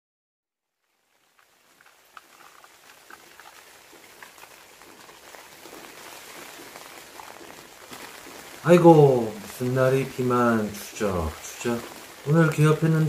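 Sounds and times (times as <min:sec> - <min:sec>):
rain hissing: 0:00.8 - 0:13.0
raindrops ticking: 0:00.8 - 0:13.0.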